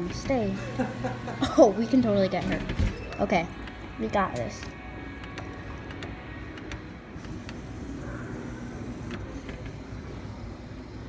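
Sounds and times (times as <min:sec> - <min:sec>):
claw machine humming: 0:00.0 - 0:11.0.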